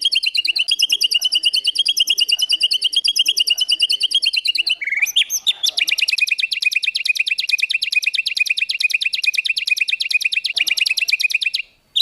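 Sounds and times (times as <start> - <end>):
songbird rapid trill: 0.0 - 12.0.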